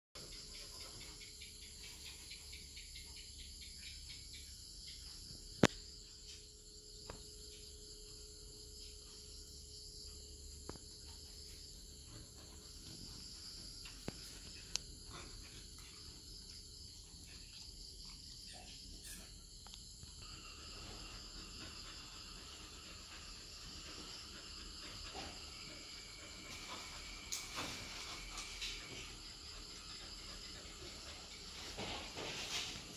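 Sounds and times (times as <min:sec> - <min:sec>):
insects chirring: 0:00.2 - 0:32.9.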